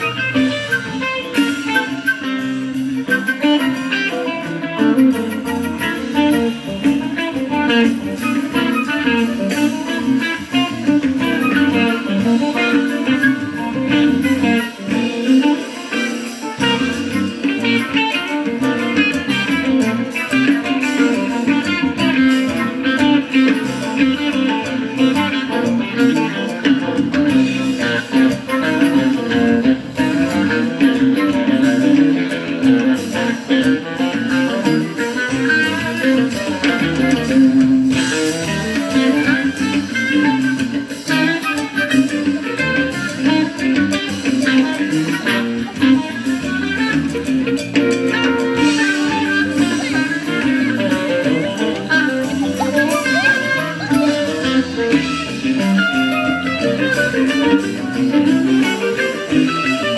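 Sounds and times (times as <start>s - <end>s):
electric guitar: 0.0s - 59.9s
live rock band playing: 0.0s - 59.9s.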